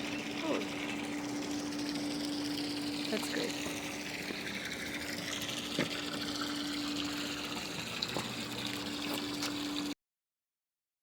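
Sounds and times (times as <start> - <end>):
low hum: 0.0 - 10.0
running water rushing: 0.0 - 10.0.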